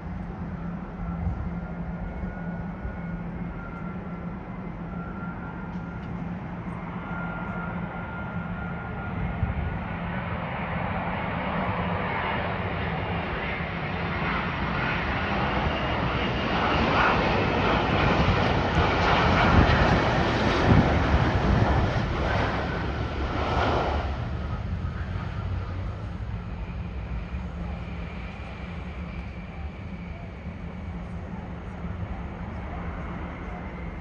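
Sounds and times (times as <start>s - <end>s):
jet engine rumble: 0.0s - 34.0s.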